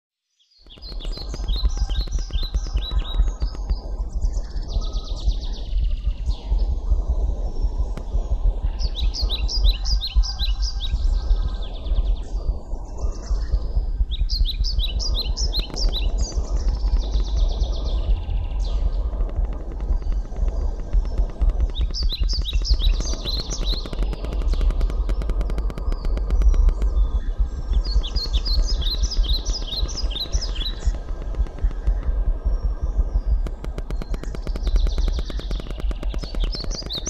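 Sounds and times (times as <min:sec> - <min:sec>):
bird singing: 0:00.3 - 0:37.0
steady low rumble: 0:00.5 - 0:37.0.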